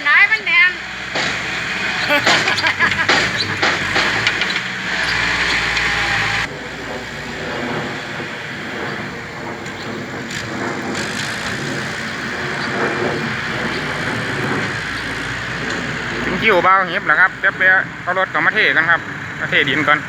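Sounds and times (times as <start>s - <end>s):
hiss: 0.0s - 16.5s
heavy machinery engine running: 0.0s - 20.0s.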